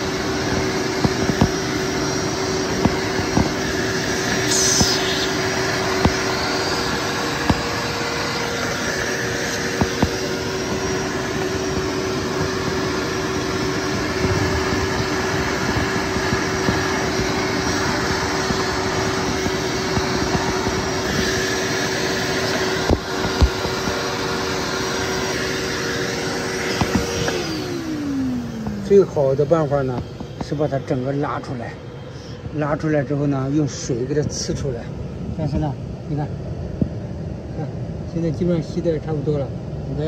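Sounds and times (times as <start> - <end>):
vacuum cleaner sucking water: 0.0 - 34.6.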